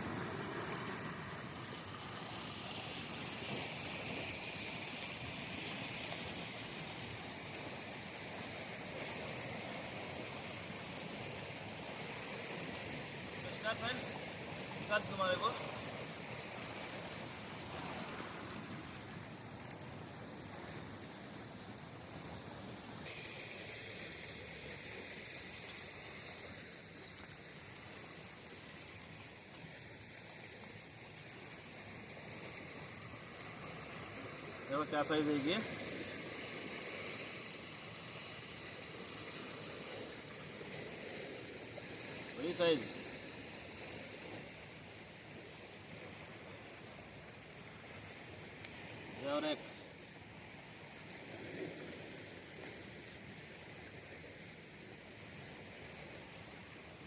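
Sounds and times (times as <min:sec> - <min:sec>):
faint outdoor hiss: 0:00.0 - 0:57.0
stream water rushing: 0:00.0 - 0:57.0.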